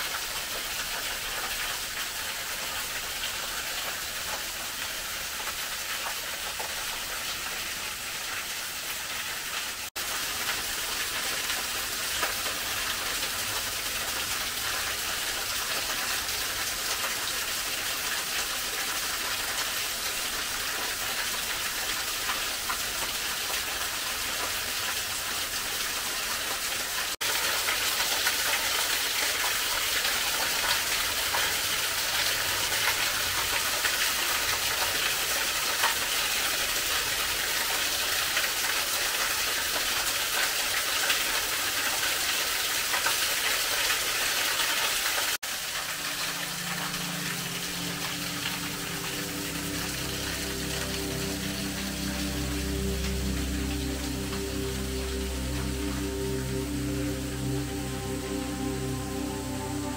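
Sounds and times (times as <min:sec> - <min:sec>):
small waterfall splashing on rocks: 0:00.0 - 0:57.7.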